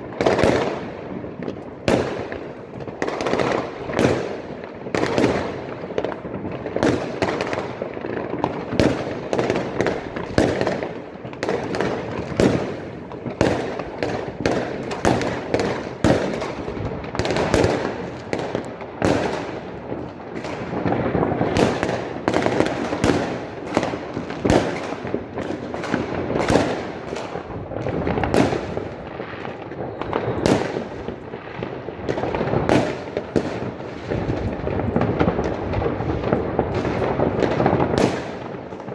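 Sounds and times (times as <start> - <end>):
distant fireworks: 0.0 - 38.9
fireworks bangs and bursts: 0.0 - 38.9.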